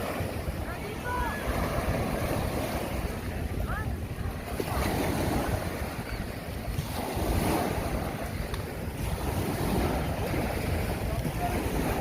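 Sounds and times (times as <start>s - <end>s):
surf washing on a beach: 0.0s - 12.0s
wind rumbling on microphone: 0.0s - 12.0s.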